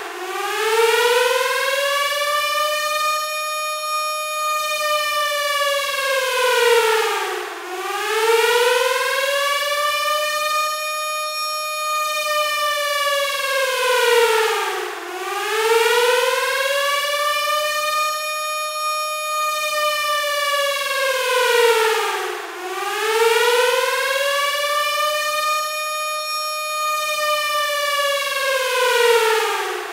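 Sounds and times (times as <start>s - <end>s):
air-raid siren wailing: 0.0s - 29.9s.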